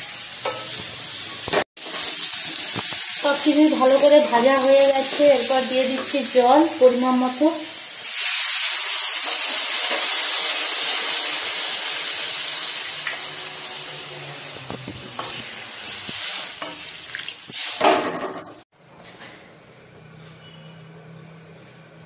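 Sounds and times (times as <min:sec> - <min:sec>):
water sizzling in hot oil: 0:00.0 - 0:18.2.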